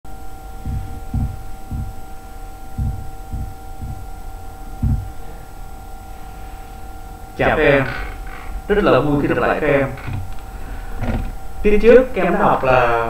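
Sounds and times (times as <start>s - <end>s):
thin steady whine tones: 0.0s - 13.0s
dull low thumps: 0.1s - 11.7s
steady electrical hum: 0.1s - 13.0s.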